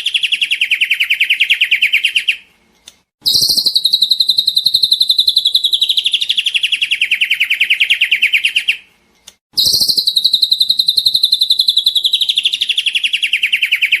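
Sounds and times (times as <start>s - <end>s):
bird singing a fast trill: 0.0s - 2.4s, 3.2s - 8.9s, 9.6s - 14.0s.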